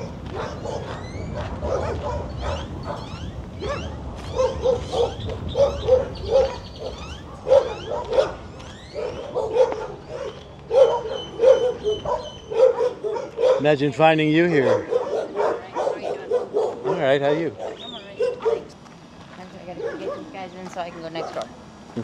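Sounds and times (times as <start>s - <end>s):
dogs barking and yipping: 0.0s - 18.8s, 19.6s - 21.5s.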